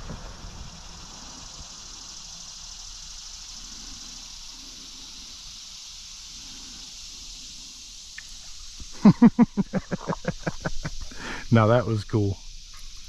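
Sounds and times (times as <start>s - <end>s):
insect chorus hiss: 0.0s - 13.0s.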